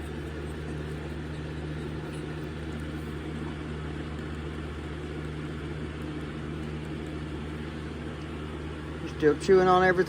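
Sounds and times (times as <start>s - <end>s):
electric fan running: 0.0s - 10.0s.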